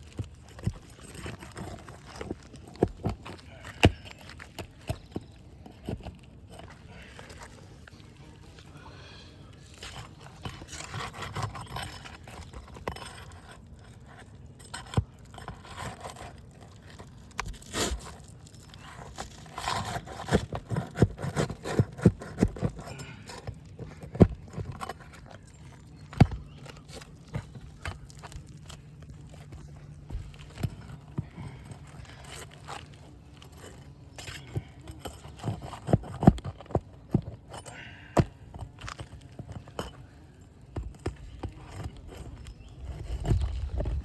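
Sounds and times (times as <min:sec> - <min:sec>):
roof shingles scraping and crackling: 0:00.0 - 0:08.8, 0:09.5 - 0:44.0.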